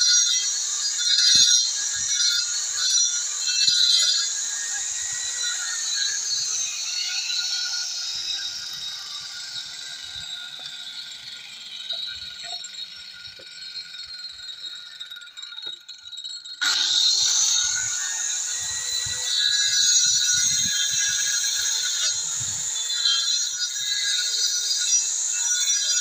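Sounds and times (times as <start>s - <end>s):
grinder disc winding down whine: 0.0s - 15.9s, 16.6s - 26.0s
angle grinder cutting brick: 0.0s - 26.0s.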